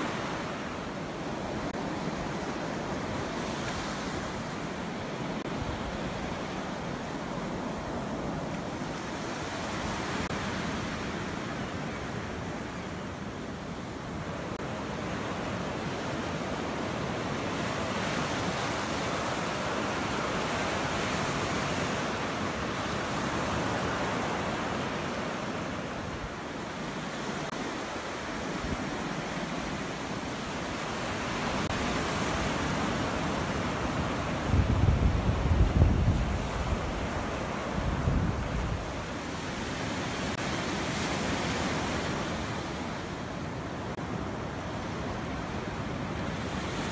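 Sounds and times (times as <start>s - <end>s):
small waves breaking on beach: 0.0s - 46.9s.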